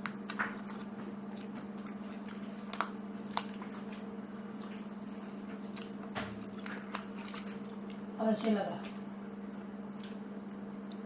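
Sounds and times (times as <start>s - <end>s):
person chewing: 0.0s - 11.0s
steady low hum: 0.0s - 11.0s.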